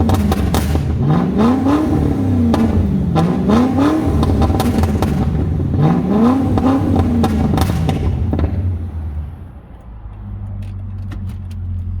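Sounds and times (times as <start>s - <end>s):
car engine revving and idling: 0.0s - 12.0s
exhaust crackling and popping: 0.0s - 12.0s.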